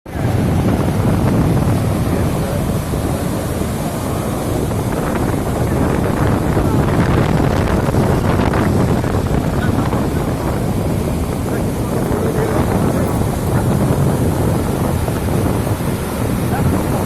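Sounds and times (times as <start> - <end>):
waterfall rushing: 0.1 - 17.0
wind buffeting microphone: 0.1 - 17.0.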